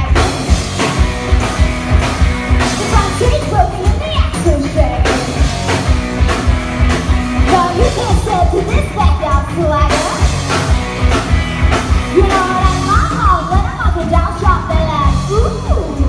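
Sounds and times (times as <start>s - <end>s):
drums and bass beat: 0.0s - 16.0s
rock and roll band music: 0.0s - 16.0s.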